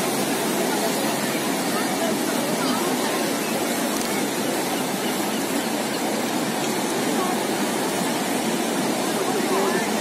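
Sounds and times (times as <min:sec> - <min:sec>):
sea surf breaking: 0:00.0 - 0:10.0
wind: 0:00.0 - 0:10.0.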